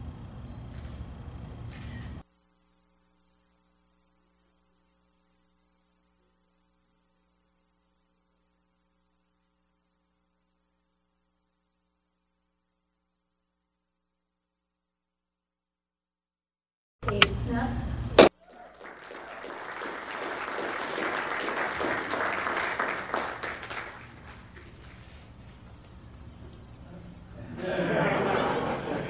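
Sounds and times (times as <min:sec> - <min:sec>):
faint mains hum: 0:00.0 - 0:15.0, 0:17.0 - 0:29.0.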